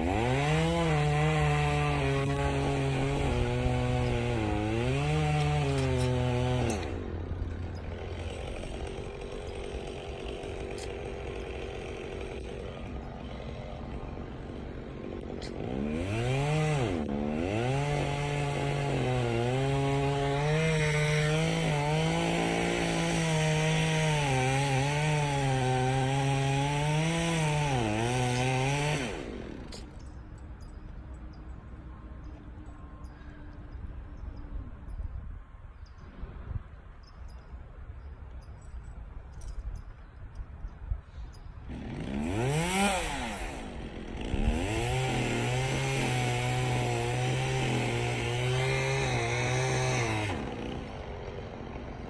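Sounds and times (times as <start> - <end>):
chainsaw cutting wood: 0.0 - 31.0, 41.1 - 52.0.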